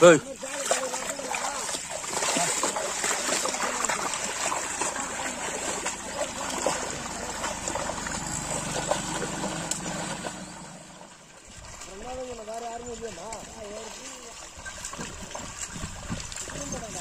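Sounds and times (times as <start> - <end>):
splashing through muddy water: 0.0 - 17.0.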